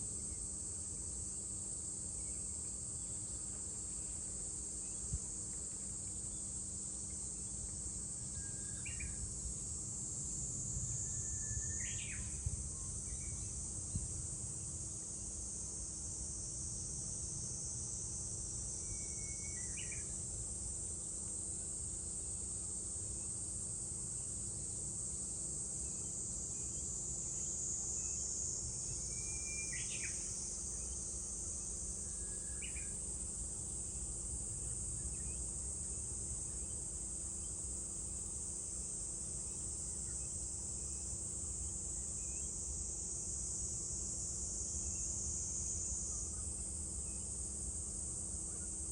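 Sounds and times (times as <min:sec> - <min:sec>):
cicadas droning: 0:00.0 - 0:48.9.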